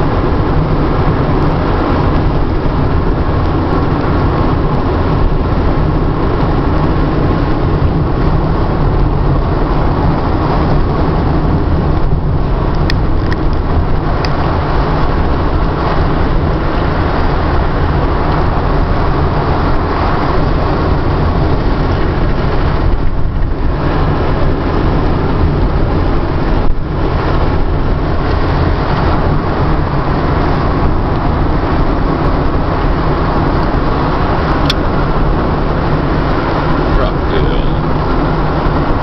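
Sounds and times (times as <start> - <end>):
car engine: 0.0 - 39.0
tyre road noise: 0.0 - 39.0
wind noise: 0.0 - 39.0.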